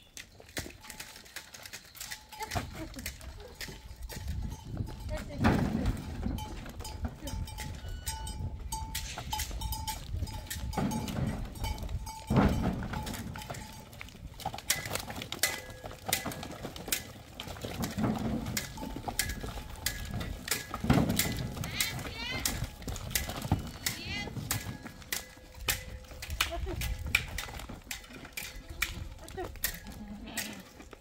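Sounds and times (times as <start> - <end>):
goat bells ringing: 0.0 - 31.0
hooves clattering on stone: 0.0 - 31.0.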